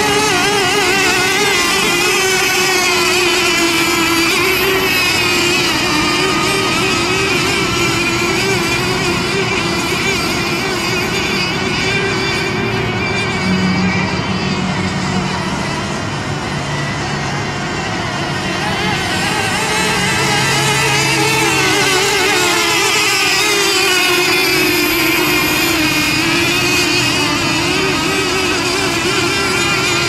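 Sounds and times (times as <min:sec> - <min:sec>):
model boat engines racing: 0:00.0 - 0:30.0.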